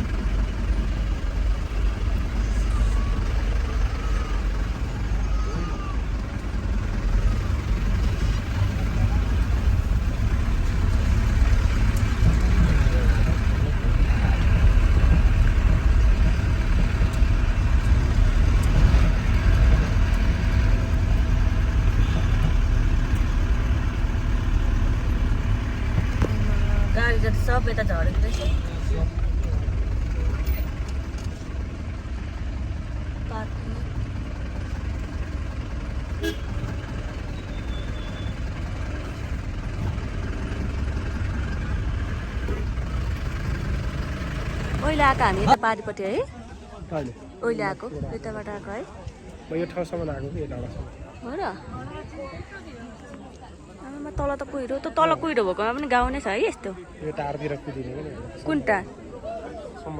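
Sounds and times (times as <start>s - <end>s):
road noise: 0.0s - 59.9s
vehicle engine rumbling: 0.0s - 59.9s.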